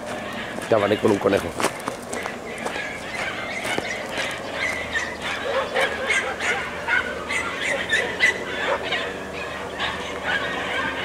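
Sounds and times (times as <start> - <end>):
dogs yipping: 0.0 - 11.0.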